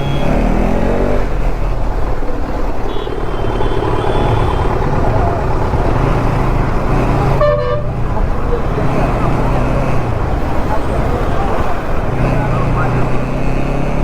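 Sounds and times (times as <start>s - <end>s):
motorcycle engine running: 0.0s - 14.0s
traffic: 0.0s - 14.0s.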